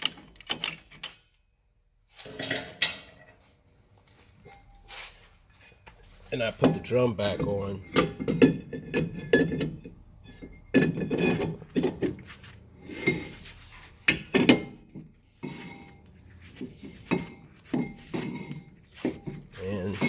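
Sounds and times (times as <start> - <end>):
metal scrapes and knocks: 2.1 - 3.4, 4.5 - 20.0.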